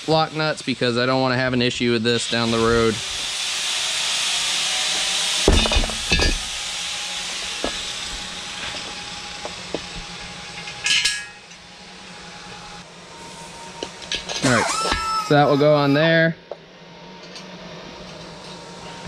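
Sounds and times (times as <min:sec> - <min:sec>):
steady shop noise hiss: 0:00.0 - 0:19.0.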